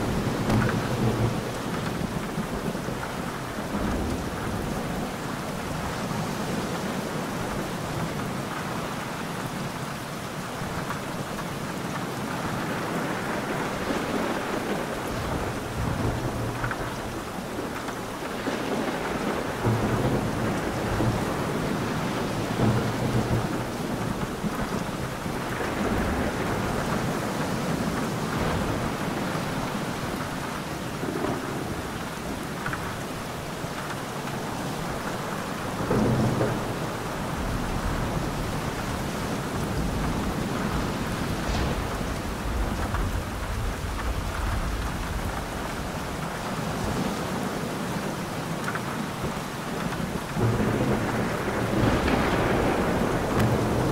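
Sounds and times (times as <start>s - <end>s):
thunder rumbling: 0.0s - 8.5s, 12.4s - 47.8s, 49.1s - 53.9s
steady rain: 0.0s - 53.9s.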